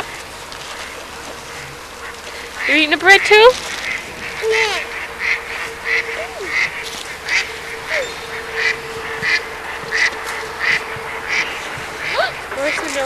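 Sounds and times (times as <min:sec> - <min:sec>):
ducks quacking: 0:00.0 - 0:13.0
faint steady hum: 0:00.0 - 0:13.0.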